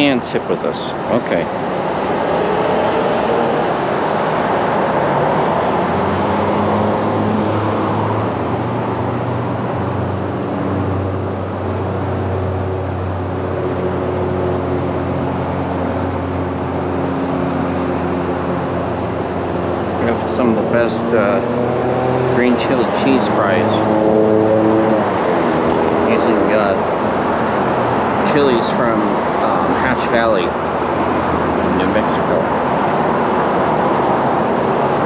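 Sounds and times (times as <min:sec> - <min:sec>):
car engines humming: 0:00.0 - 0:35.0.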